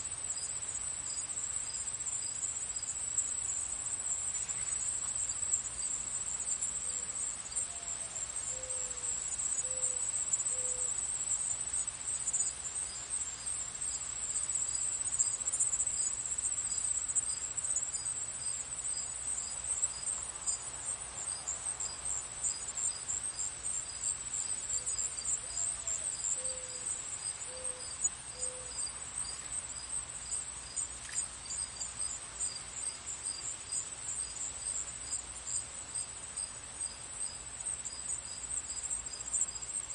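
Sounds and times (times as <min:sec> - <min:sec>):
crickets chirping: 0:00.0 - 0:39.9
soft regular chirp: 0:00.2 - 0:20.7, 0:21.4 - 0:39.9.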